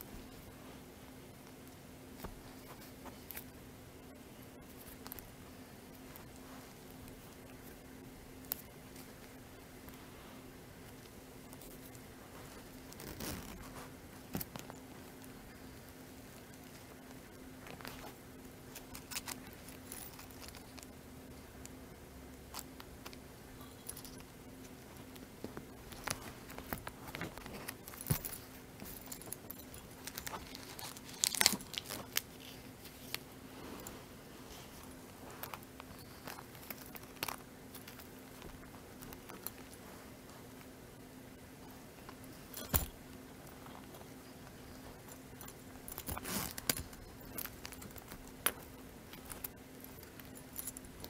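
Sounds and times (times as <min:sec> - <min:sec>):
soft rustling: 0:00.0 - 0:51.0.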